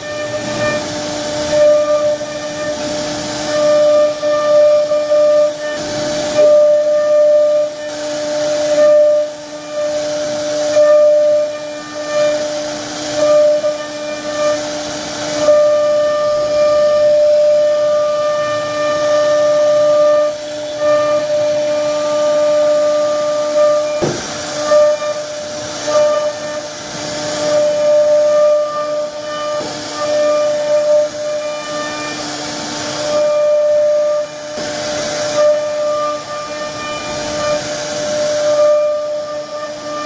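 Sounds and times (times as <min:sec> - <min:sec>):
hiss of cutting wood: 0:00.0 - 0:40.0
router spindle whining: 0:00.0 - 0:40.0.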